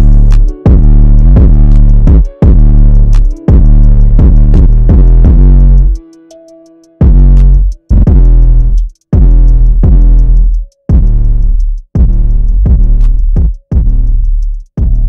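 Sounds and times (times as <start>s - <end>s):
distorted bass notes: 0.0s - 6.0s, 7.0s - 15.0s
fast ticking hi-hats: 0.0s - 15.0s.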